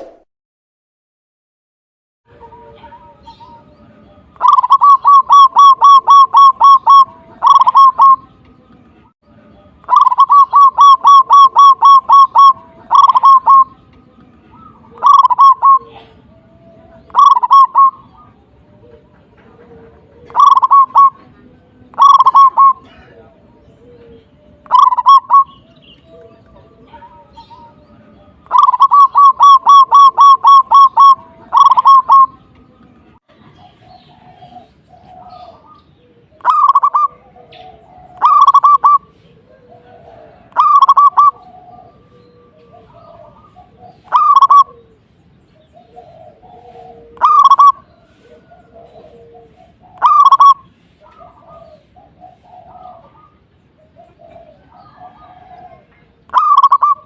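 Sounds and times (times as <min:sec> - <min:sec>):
dove cooing: 0:02.3 - 0:08.3, 0:09.8 - 0:32.5, 0:33.6 - 0:57.0
fainter low bird calls: 0:02.3 - 0:57.0.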